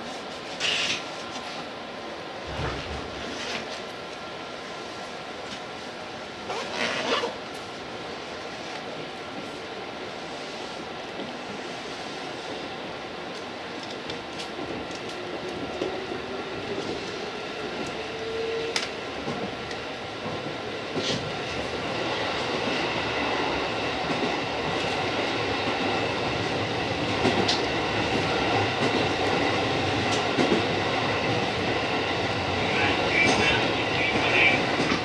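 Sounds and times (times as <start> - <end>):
electric train rumbling: 0.0 - 35.0.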